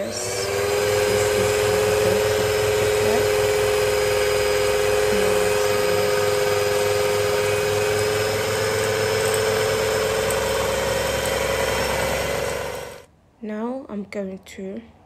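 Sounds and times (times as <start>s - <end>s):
stand mixer kneading dough: 0.0s - 13.0s.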